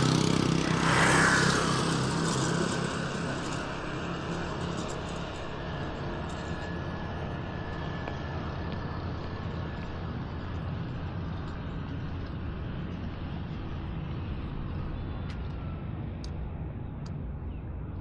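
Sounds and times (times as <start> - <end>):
low engine rumble: 0.0 - 15.8.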